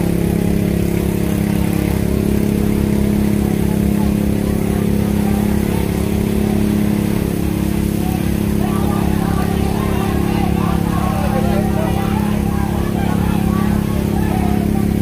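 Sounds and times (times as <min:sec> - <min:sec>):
pump engine running: 0:00.0 - 0:15.0.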